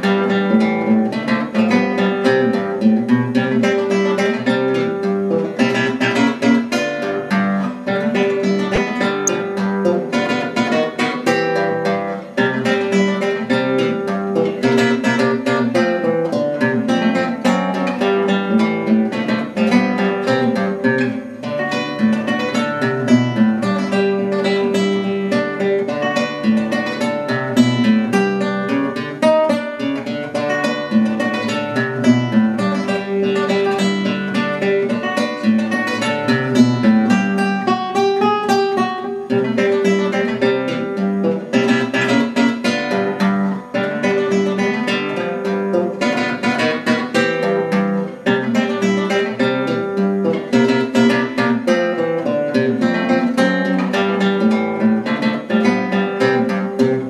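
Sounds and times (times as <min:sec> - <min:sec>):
acoustic guitar music: 0:00.0 - 0:57.0.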